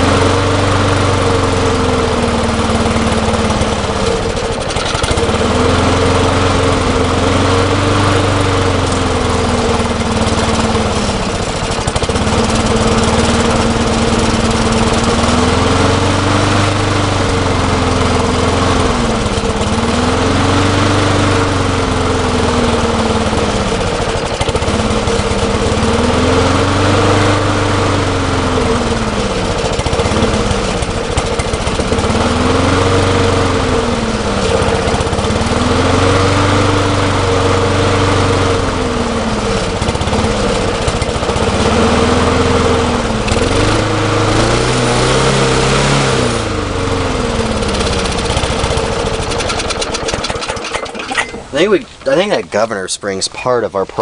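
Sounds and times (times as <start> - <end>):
lawn mower engine surging: 0.0 - 54.0.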